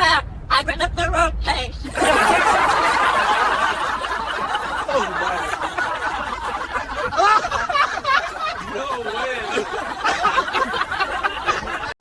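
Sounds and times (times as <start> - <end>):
people laughing and snickering: 1.9 - 12.0.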